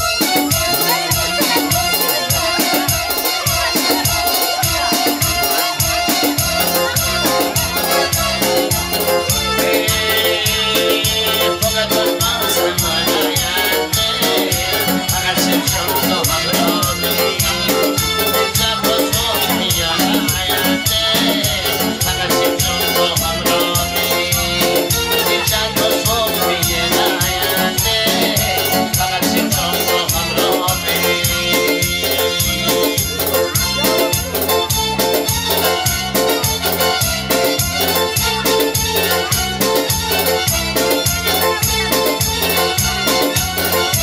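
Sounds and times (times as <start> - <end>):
keyboard melody over fast beat: 0.0 - 44.0
pulsing bass: 0.0 - 44.0.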